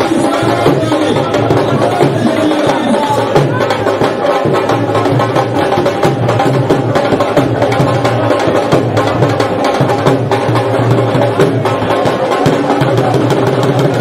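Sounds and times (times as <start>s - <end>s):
drums beating fast rhythm: 0.0s - 14.0s.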